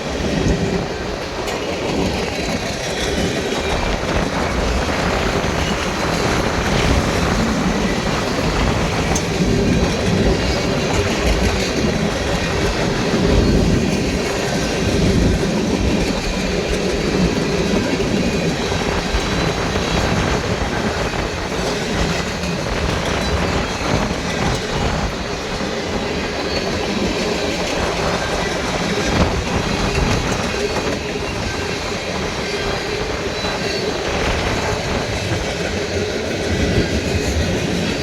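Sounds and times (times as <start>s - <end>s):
freight train cars rolling: 0.0s - 38.0s
wind buffeting microphone: 0.0s - 38.0s.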